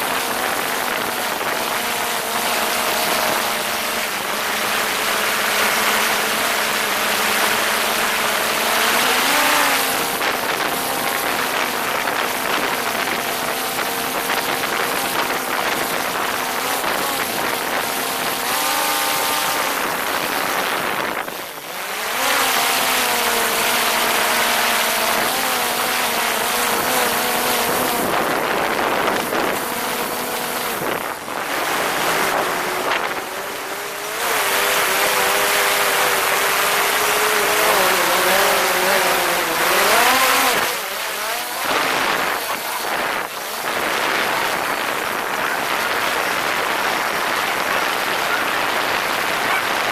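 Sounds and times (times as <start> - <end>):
drone propellers whining: 0.0 - 49.9.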